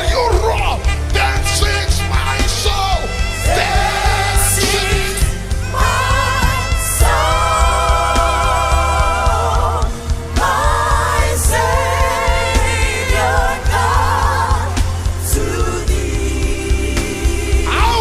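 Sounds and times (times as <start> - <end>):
bass and drum beat: 0.0 - 18.0.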